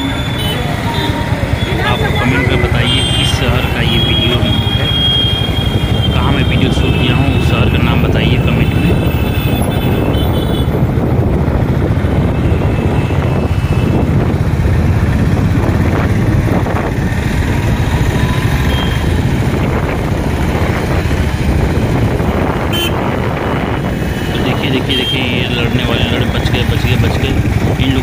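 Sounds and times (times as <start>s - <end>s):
motorbike engine: 0.0s - 28.0s
wind rumble: 0.0s - 28.0s.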